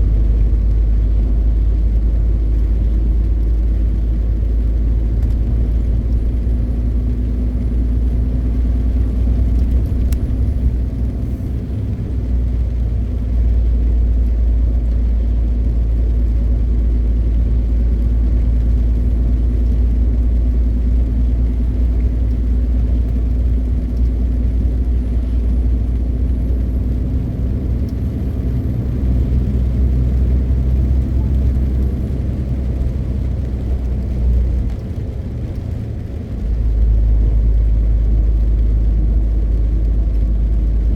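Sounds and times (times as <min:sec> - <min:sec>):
road and tyre rumble: 0:00.0 - 0:40.9
truck diesel engine drone: 0:00.0 - 0:40.9.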